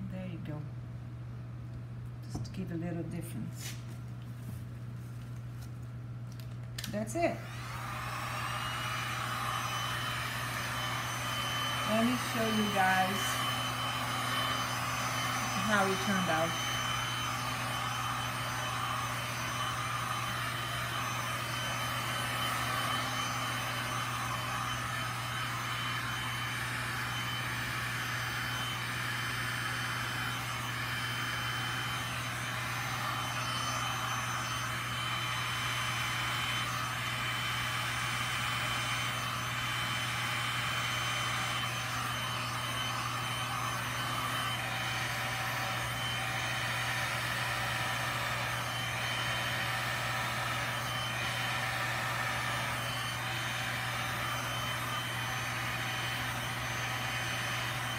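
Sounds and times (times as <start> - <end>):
heat gun blowing air: 6.9 - 57.9.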